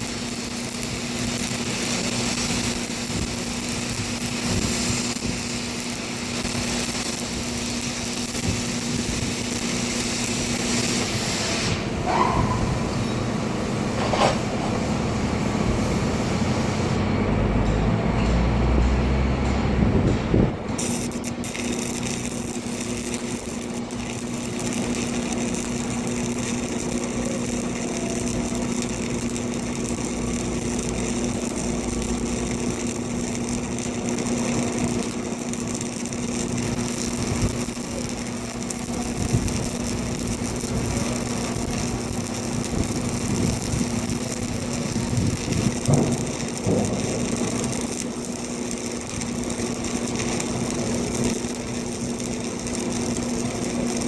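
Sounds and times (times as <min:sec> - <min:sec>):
welding pops: 0:00.0 - 0:11.9, 0:20.0 - 0:54.0
welding arc crackling: 0:00.0 - 0:17.0, 0:18.5 - 0:54.0
welding machine hum: 0:00.0 - 0:54.0.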